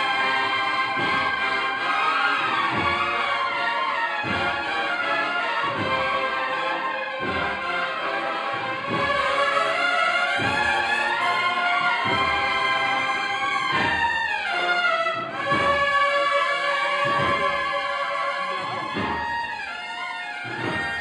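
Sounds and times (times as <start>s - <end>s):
brass band playing slow march: 0.0s - 21.0s
deep drum beat: 0.2s - 1.8s, 2.5s - 3.5s, 4.2s - 6.6s, 7.2s - 21.0s.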